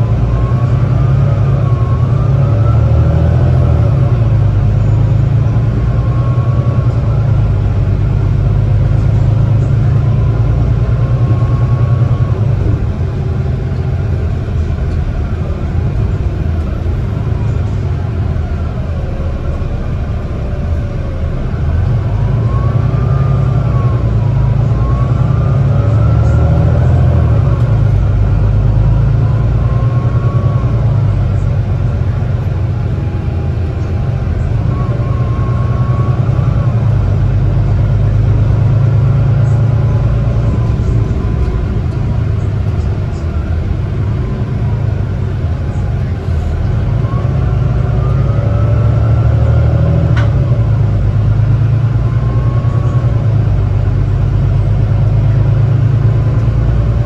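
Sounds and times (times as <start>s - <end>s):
diesel bus engine drone: 0.0s - 57.0s
driveline whine: 0.0s - 57.0s.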